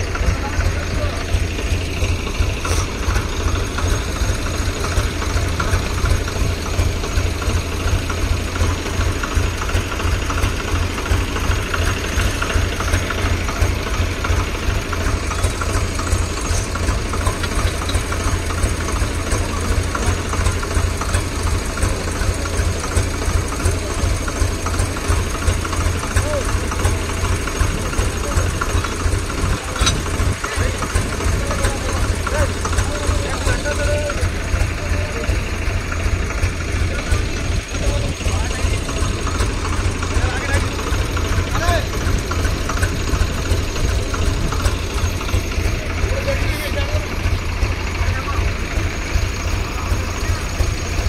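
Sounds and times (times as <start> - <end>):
tractor diesel engine idling: 0.0 - 51.0.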